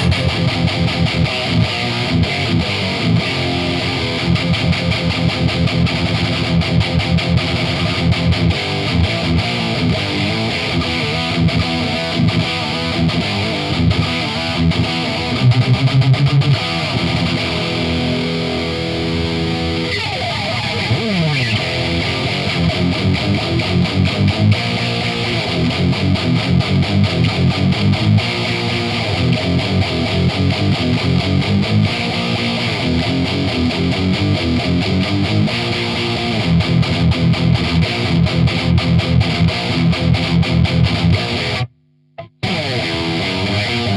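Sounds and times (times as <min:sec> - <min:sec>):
distorted electric guitar metal riffs: 0:00.0 - 0:43.9
guitar pitch slide: 0:00.0 - 0:43.9.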